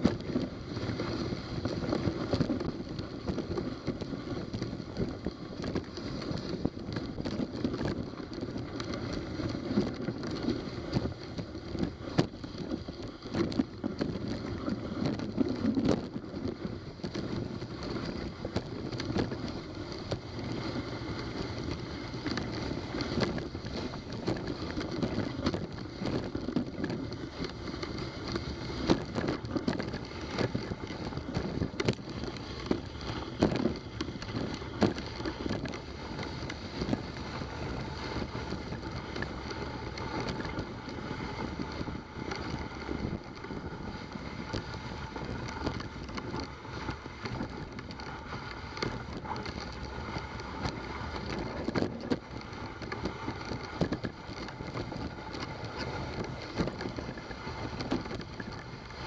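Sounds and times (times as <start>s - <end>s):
sled clicks and knocks: 0.0s - 59.0s
sled runners scraping on snow: 0.0s - 59.0s.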